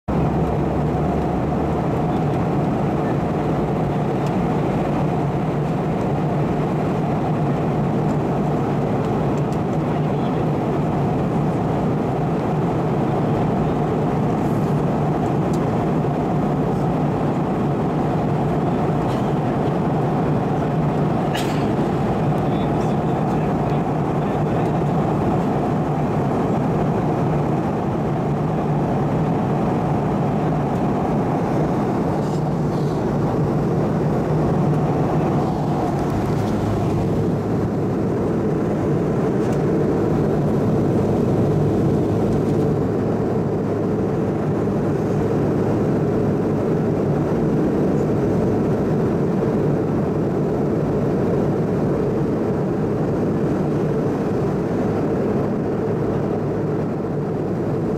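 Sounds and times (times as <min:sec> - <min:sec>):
airplane cabin engine drone: 0:00.1 - 0:57.9.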